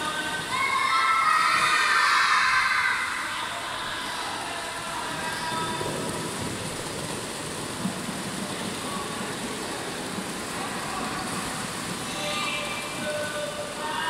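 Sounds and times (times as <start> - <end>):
indoor swimming pool hubbub: 0.0 - 14.0.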